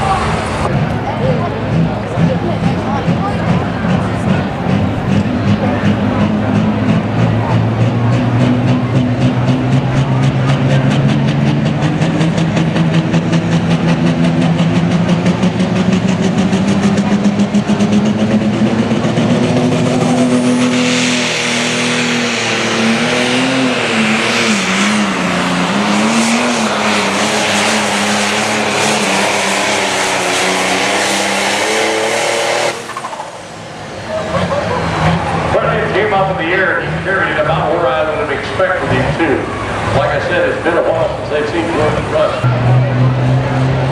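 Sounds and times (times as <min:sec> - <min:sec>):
diesel tractor engine under load: 0:00.0 - 0:43.9.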